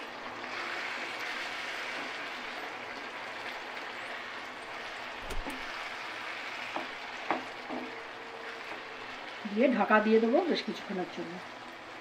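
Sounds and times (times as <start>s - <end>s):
curry sizzling in a frying pan: 0.0s - 12.0s.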